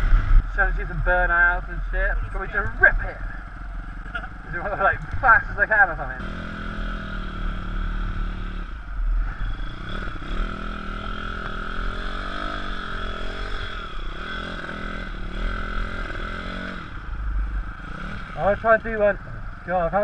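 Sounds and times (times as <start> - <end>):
pit bike engine running hard: 0.0 - 20.0.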